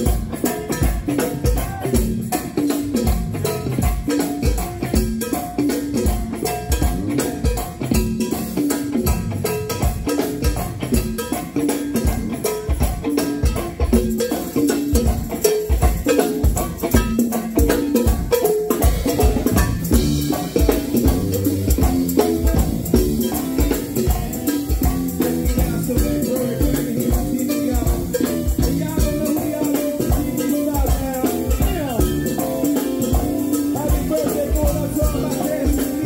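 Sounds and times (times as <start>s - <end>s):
drum kit and hand percussion: 0.0s - 36.0s
live band playing: 0.0s - 36.0s.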